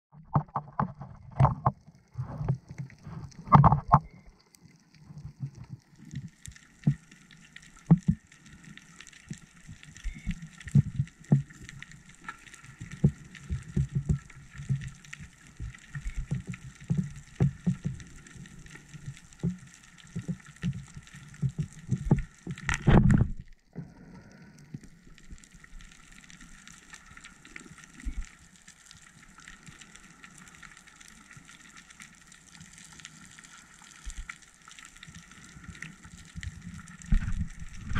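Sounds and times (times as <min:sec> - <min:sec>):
underwater bubbling: 0:00.1 - 0:37.9
faint steady hiss: 0:04.0 - 0:37.9.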